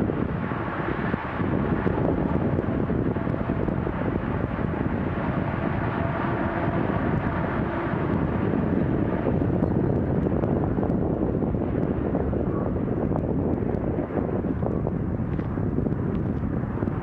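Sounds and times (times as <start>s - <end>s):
faint low engine hum: 0.0s - 17.0s
motorway traffic rush: 0.0s - 17.0s.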